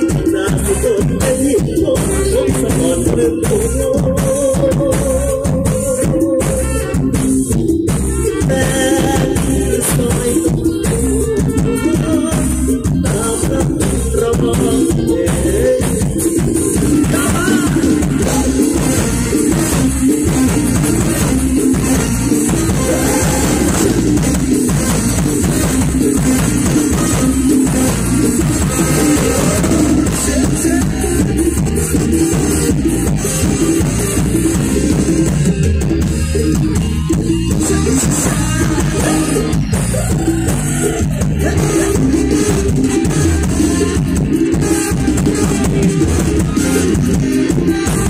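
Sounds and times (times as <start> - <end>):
drum kit beat: 0.0 - 48.0
keyboard: 0.0 - 48.0
live band playing amplified music: 0.0 - 48.0.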